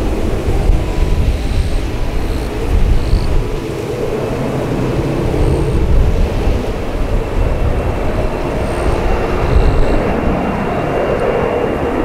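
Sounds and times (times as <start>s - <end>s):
high turbine whine: 0.0s - 12.0s
jet engines rumbling: 0.0s - 12.0s.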